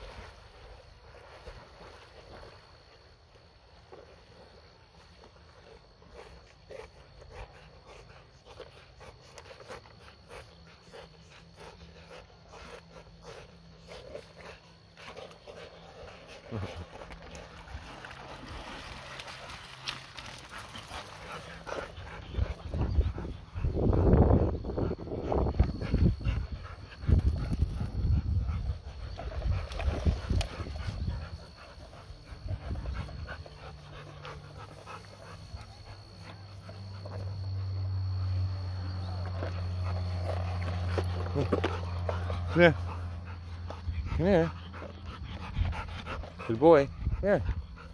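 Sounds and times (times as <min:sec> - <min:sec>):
dogs panting: 0:00.6 - 0:47.9.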